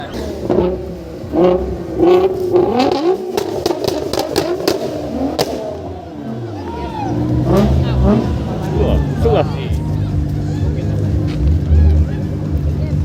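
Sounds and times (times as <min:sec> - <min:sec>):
sharp exhaust pops: 0:00.0 - 0:06.5, 0:07.1 - 0:13.0
sports car engine revving: 0:00.0 - 0:13.0.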